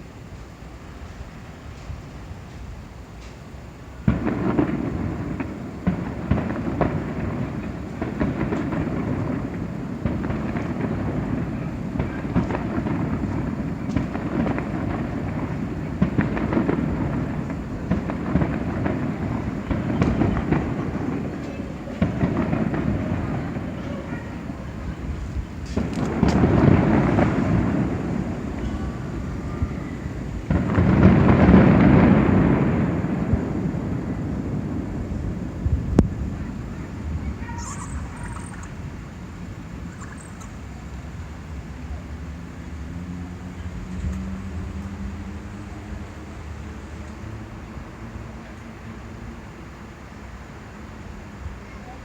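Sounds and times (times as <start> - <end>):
fireworks booming and cracking: 0.0 - 52.0.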